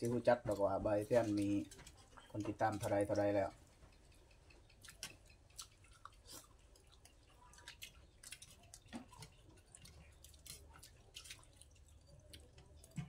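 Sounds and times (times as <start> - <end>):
people chewing and eating: 0.0 - 13.0.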